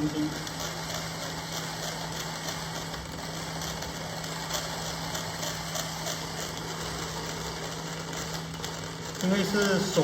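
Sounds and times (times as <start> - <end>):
coffee grinder grinding beans: 0.0 - 10.0.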